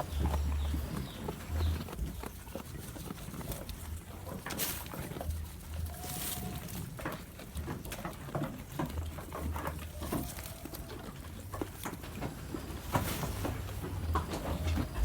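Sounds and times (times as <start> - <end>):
goat chewing crunchy food: 0.0 - 15.0.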